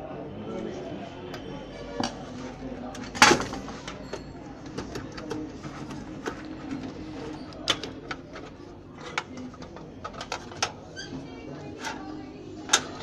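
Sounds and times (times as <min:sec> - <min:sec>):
low background murmur: 0:00.0 - 0:13.0.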